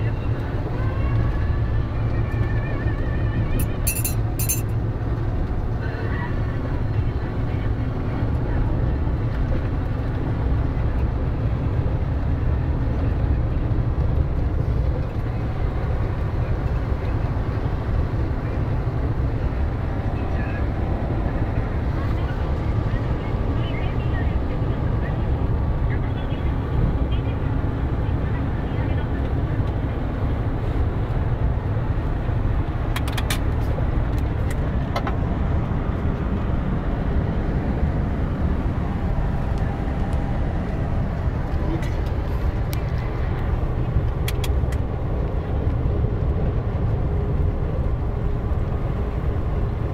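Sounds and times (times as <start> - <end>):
truck engine and road rumble: 0.0 - 49.9.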